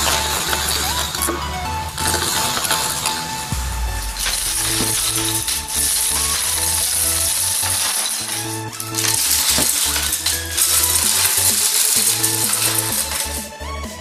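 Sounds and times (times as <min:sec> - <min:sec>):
wooden sticks clattering on floor: 0:00.0 - 0:13.6
background music with beat: 0:00.0 - 0:14.0.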